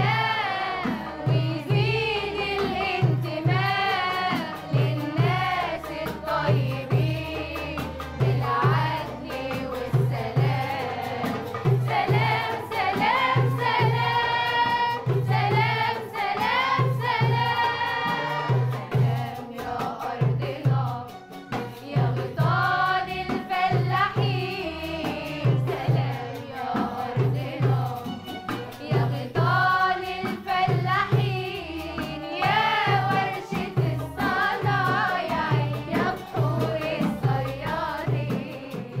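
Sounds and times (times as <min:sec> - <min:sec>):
low drum beat: 0:00.0 - 0:28.2, 0:28.8 - 0:39.0
accompanying instruments: 0:00.0 - 0:39.0
youth choir singing: 0:00.0 - 0:39.0.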